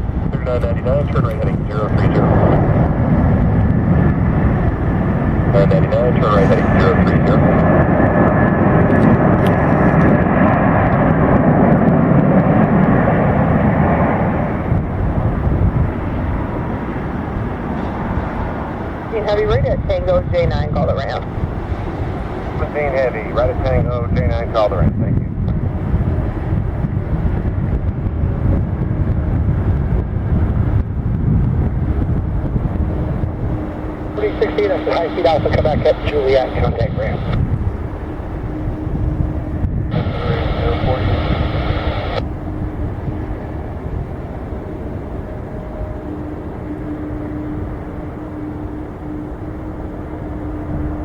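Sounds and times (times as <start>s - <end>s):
jet engines rushing: 0.0s - 51.0s
wind buffeting microphone: 0.0s - 51.0s.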